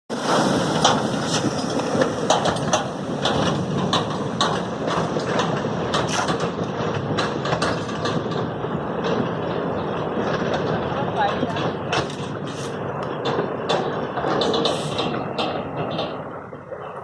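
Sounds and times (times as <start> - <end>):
dump truck rumbling: 0.1 - 17.0
sharp clacks and knocks: 0.8 - 17.0.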